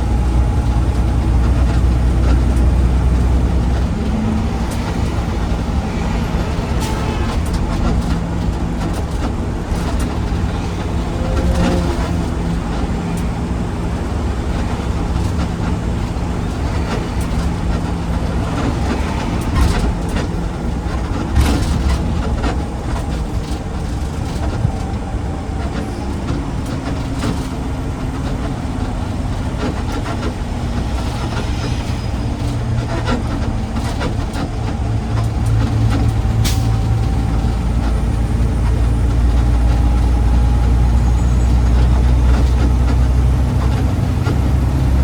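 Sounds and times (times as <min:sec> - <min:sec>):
garbage truck diesel engine: 0:00.0 - 0:45.0.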